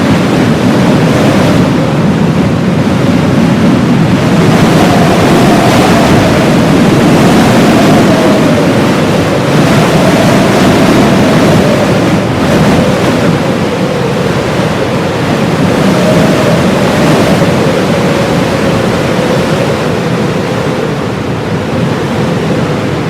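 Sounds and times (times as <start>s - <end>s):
blizzard wind rushing: 0.0s - 23.0s.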